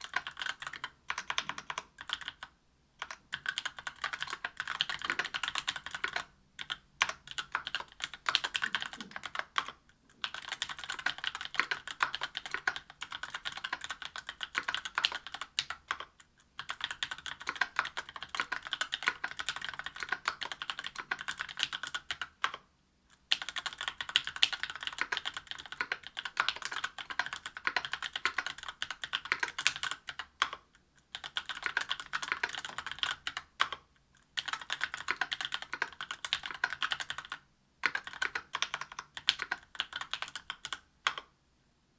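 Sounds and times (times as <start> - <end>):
mechanical keyboard typing: 0.0 - 22.6, 23.2 - 33.8, 34.4 - 41.3.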